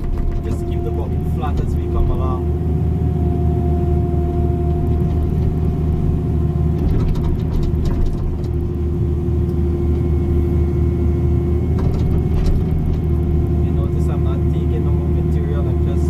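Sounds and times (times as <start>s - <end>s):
excavator diesel engine running: 0.0s - 16.0s
hydraulic whine: 0.0s - 16.0s.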